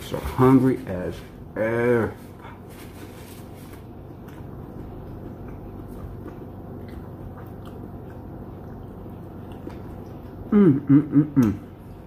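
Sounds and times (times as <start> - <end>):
low room hum: 0.0 - 12.0
person chewing food: 2.3 - 12.0.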